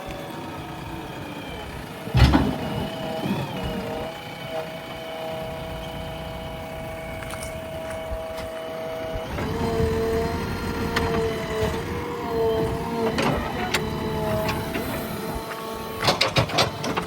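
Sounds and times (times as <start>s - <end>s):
backhoe loader engine whining: 0.0s - 17.0s.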